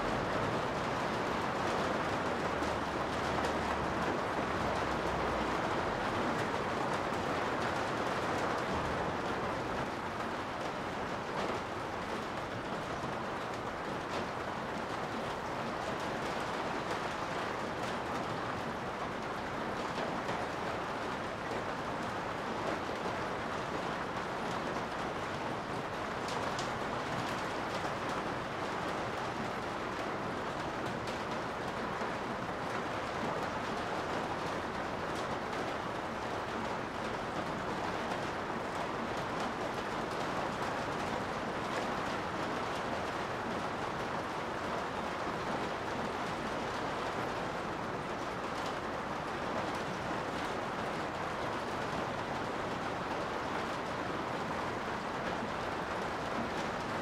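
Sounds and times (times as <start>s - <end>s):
steady rain hiss: 0.0s - 57.0s
ticks of raindrops: 0.0s - 57.0s.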